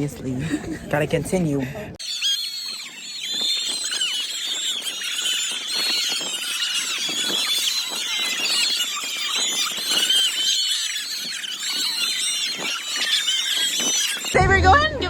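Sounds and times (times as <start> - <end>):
flock of birds chattering: 2.0 - 14.5.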